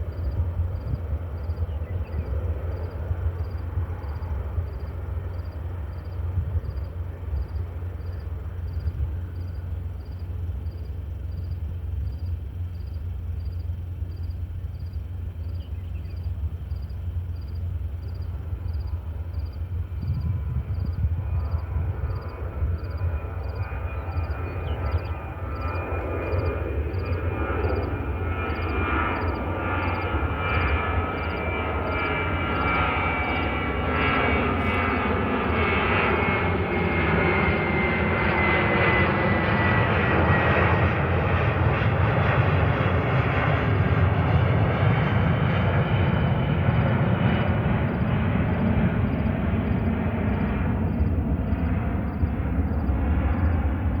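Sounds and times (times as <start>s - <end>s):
high engine whine: 0.0s - 54.0s
jet engine rumble: 0.0s - 54.0s.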